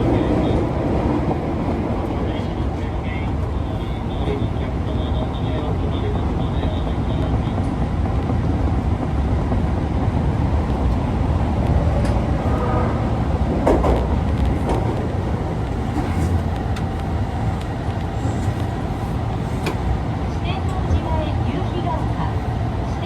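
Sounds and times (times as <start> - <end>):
subway wheels rumbling: 0.0 - 23.0.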